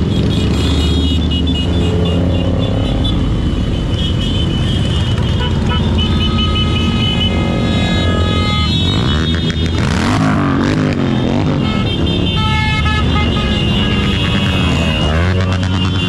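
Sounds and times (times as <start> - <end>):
horn toots: 0.0 - 16.0
motorcycles riding past: 0.0 - 16.0.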